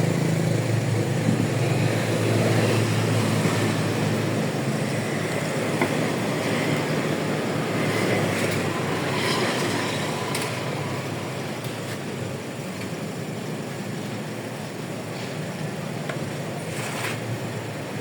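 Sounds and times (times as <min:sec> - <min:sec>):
vehicle and road noise: 0:00.0 - 0:18.0.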